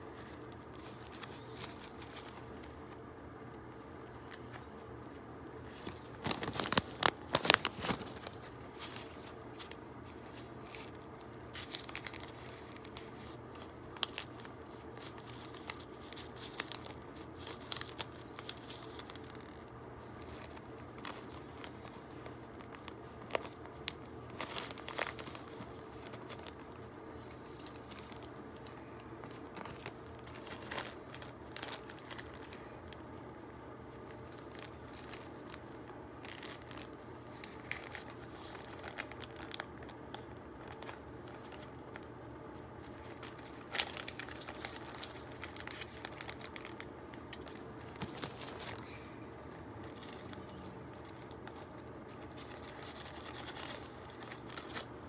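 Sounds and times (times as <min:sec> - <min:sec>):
plastic bag crinkling: 0:00.0 - 0:55.0.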